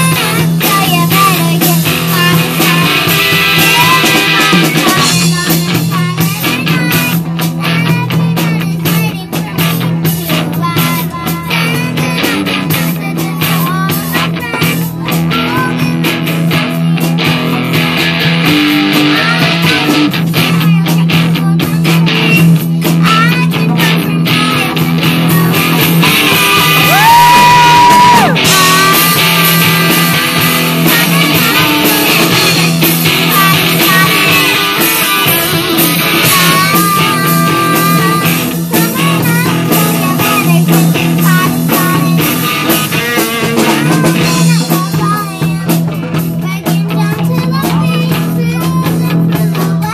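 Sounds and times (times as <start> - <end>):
live rock band: 0.0 - 49.9
person singing: 0.0 - 49.9.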